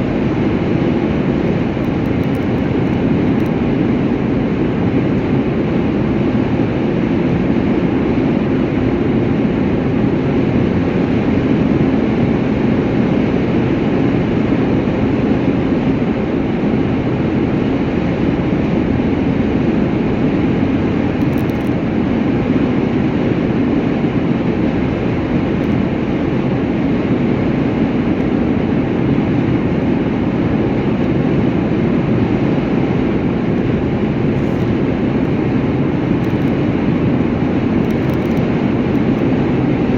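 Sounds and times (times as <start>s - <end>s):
vehicle engine and tyre noise: 0.0s - 39.9s.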